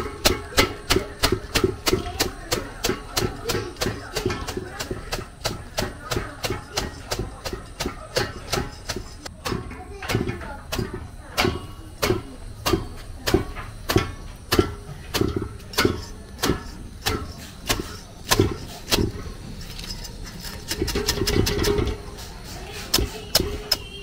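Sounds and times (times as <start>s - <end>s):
broom beating leaves in metal pot: 0.0s - 24.0s
broom whisking in pot: 0.0s - 24.0s.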